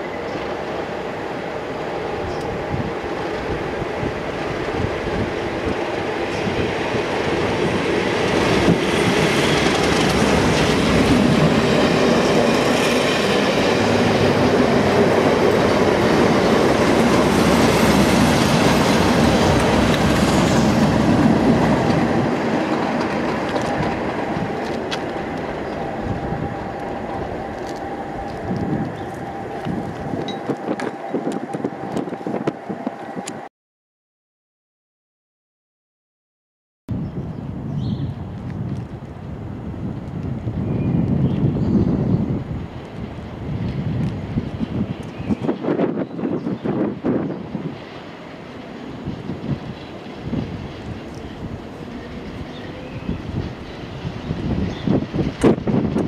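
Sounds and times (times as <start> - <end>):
train wheels on rails: 0.0 - 33.5, 38.2 - 56.0.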